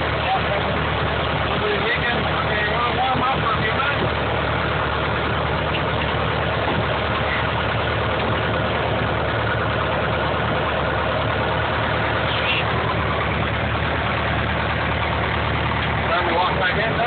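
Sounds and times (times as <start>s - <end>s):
piston engine idling: 0.0s - 17.0s.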